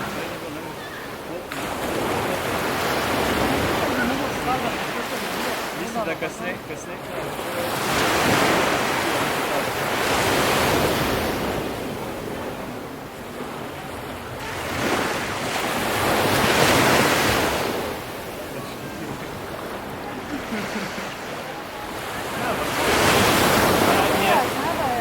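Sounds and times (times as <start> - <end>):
ocean waves surging onto shore: 0.0 - 25.0.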